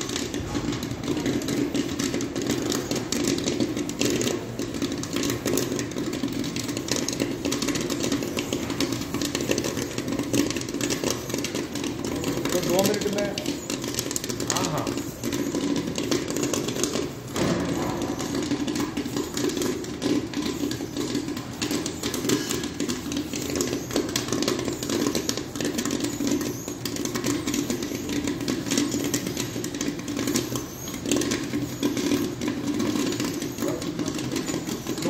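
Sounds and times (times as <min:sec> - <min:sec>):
popcorn kernels popping: 0:00.0 - 0:35.0.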